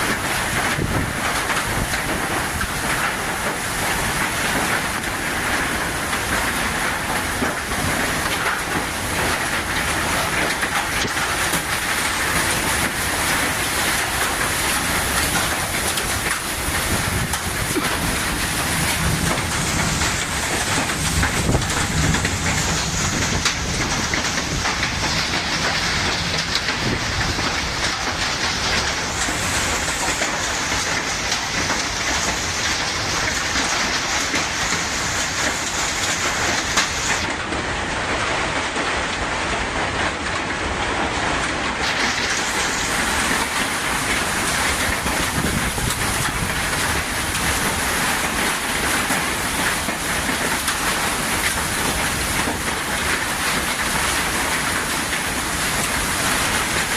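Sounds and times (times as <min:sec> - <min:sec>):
heavy rain: 0:00.0 - 0:56.9
wind: 0:00.0 - 0:56.9.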